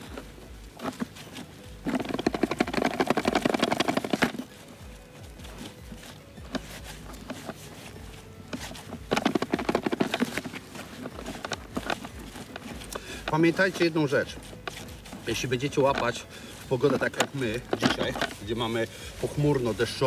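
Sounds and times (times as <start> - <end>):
hands rubbing gritty bait: 0.0 - 20.0.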